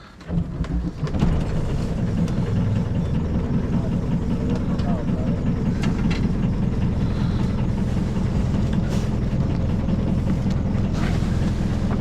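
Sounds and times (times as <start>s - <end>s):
boat motor running: 0.3s - 12.0s.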